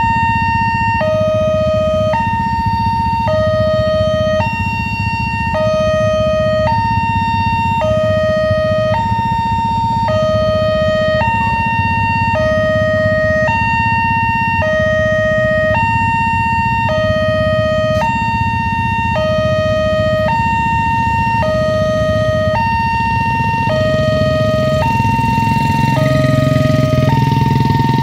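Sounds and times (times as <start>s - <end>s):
idling motorcycle and car engines: 0.0s - 28.0s
level crossing two-tone alarm: 0.0s - 28.0s.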